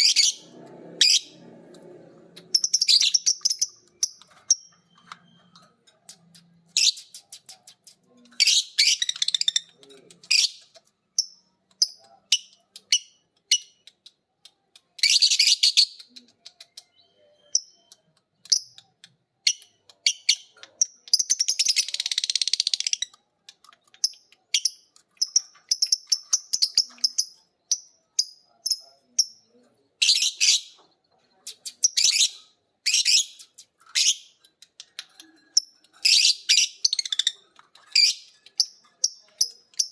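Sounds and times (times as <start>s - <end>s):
lovebirds chirping and trilling: 0.0s - 39.9s.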